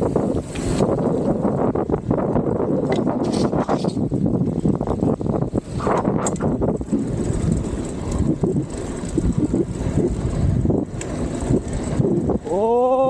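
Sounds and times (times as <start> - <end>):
bike tyres rolling on asphalt: 0.0 - 13.0
wind buffeting microphone: 0.0 - 13.0.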